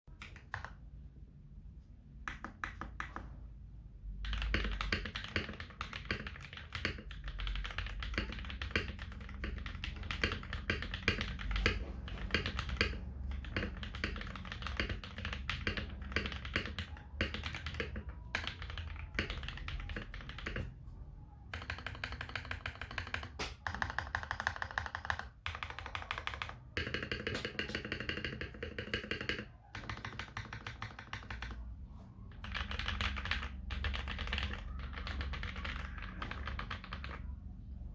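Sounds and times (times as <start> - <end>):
mechanical keyboard typing: 0.1 - 1.0, 2.2 - 3.4, 4.2 - 20.7, 21.4 - 31.7, 32.3 - 37.4.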